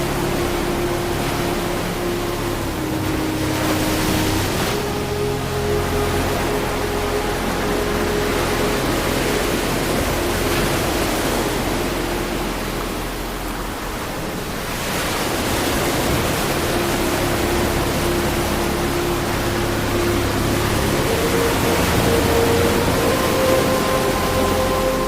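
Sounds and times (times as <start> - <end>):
low held tones: 0.0 - 25.0
ocean surf rushing: 0.0 - 25.0.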